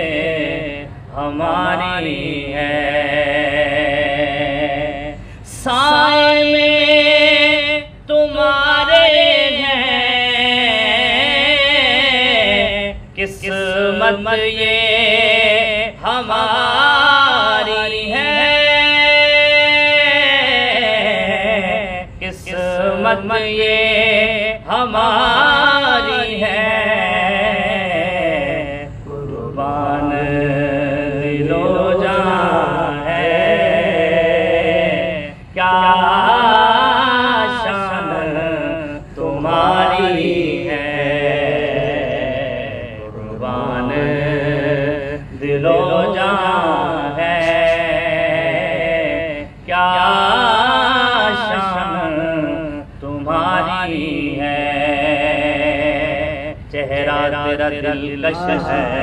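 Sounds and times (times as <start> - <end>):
man singing devotional song: 0.0 - 59.0.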